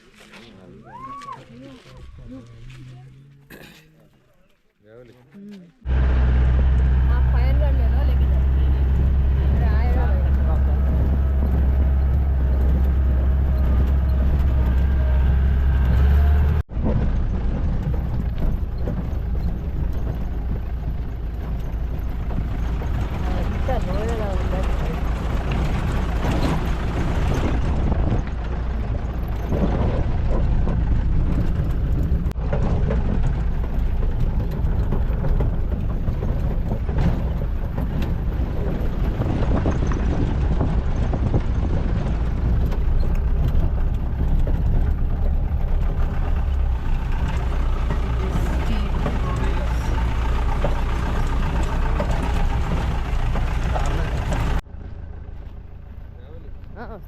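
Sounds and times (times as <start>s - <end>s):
jeep engine rumbling off-road: 5.8s - 57.0s.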